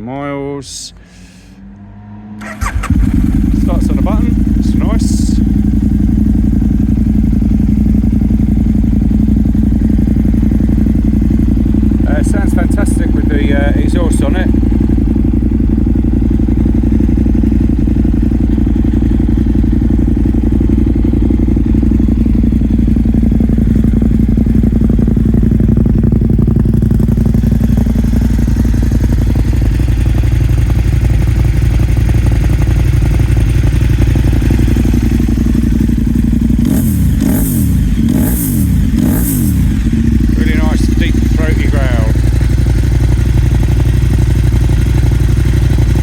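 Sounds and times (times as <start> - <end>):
engine throttle blips: 0.6 - 46.0
motorcycle engine idling: 2.4 - 46.0.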